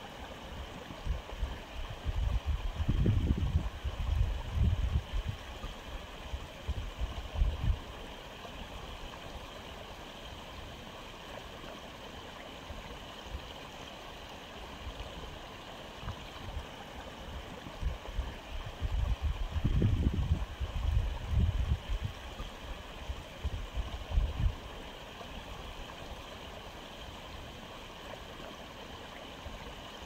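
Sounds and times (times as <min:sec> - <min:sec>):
aquarium filter trickling water: 0:00.0 - 0:30.0.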